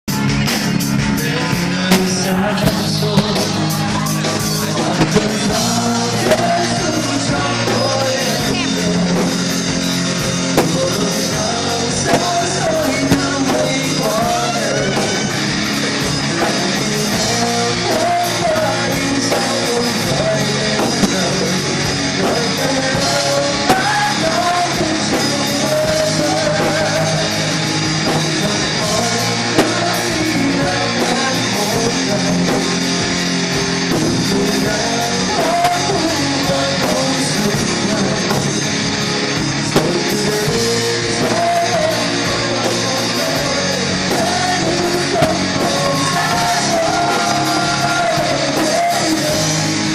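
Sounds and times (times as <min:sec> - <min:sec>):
rock music with singing: 0:00.0 - 0:49.9.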